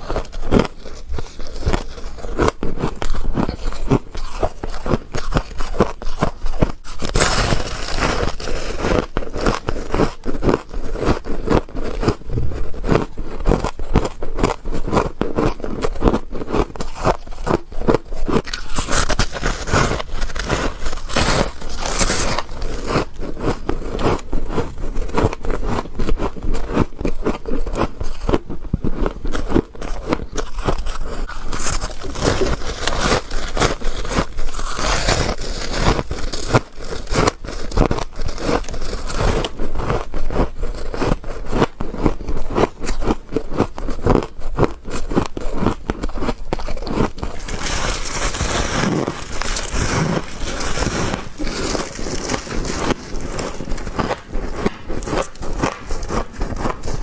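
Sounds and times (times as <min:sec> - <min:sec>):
frost crunching in mouth: 0:00.0 - 0:57.0.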